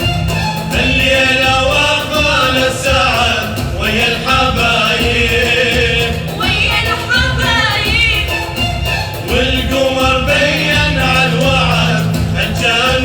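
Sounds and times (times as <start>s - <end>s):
group of voices singing: 0.0s - 13.0s
instrumental accompaniment: 0.0s - 13.0s.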